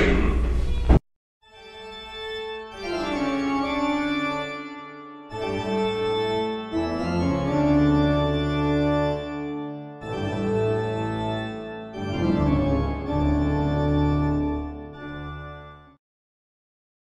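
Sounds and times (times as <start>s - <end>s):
organ chords: 1.5s - 16.0s.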